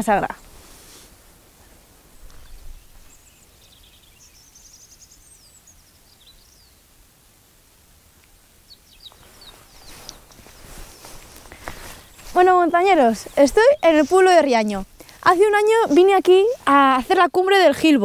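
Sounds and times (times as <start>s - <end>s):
outdoor background noise: 0.0s - 18.0s
songbird chirps: 0.0s - 18.0s.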